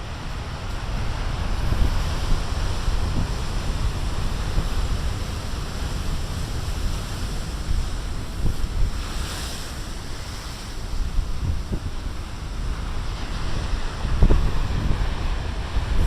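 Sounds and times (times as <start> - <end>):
storm waves breaking: 0.0 - 16.0
wind buffeting microphone: 0.0 - 16.0.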